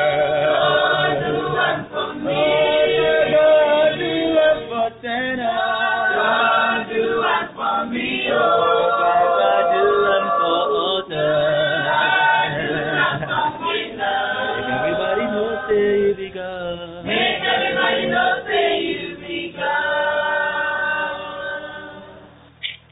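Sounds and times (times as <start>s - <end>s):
choir singing a cappella: 0.0s - 16.4s, 17.0s - 22.4s.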